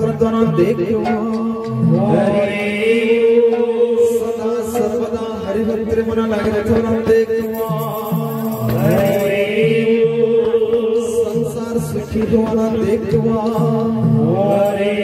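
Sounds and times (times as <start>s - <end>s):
devotional chanted singing: 0.0s - 15.0s
drum strokes: 0.0s - 15.0s.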